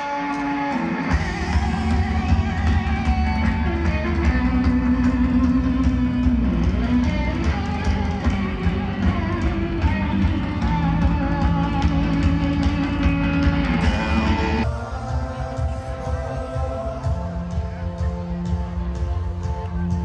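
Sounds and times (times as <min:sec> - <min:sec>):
bass guitar: 0:00.0 - 0:20.0
electric guitar: 0:00.0 - 0:20.0
drum kit beat: 0:00.8 - 0:20.0.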